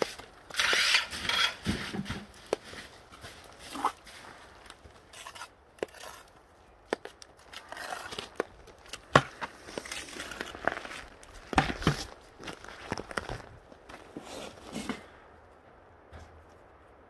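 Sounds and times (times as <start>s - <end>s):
scraping and crunching: 0.0s - 15.2s.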